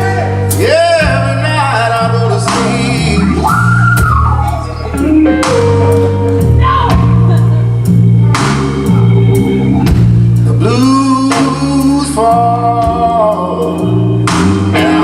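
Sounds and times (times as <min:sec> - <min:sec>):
bending lead guitar line: 0:00.0 - 0:15.0
blues band playing: 0:00.0 - 0:15.0.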